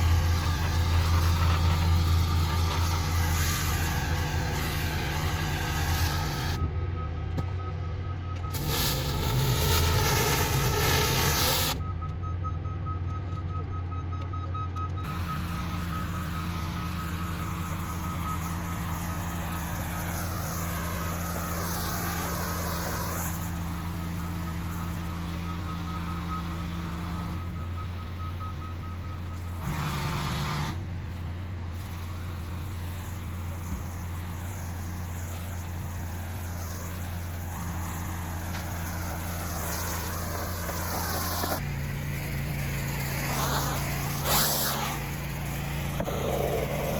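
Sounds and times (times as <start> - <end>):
high-pressure water spray hiss: 0.0 - 6.6, 8.6 - 11.8, 15.1 - 27.2, 29.5 - 30.8, 31.8 - 46.9
pressure washer engine running: 0.0 - 6.6, 8.5 - 11.8, 15.1 - 27.5, 29.4 - 46.9.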